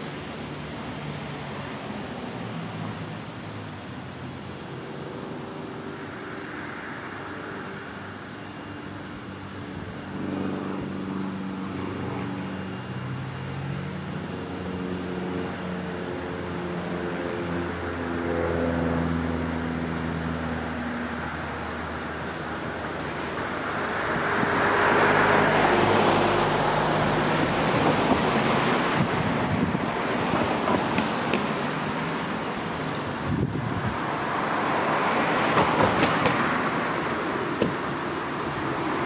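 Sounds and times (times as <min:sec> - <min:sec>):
car engines passing: 0:00.0 - 0:39.0.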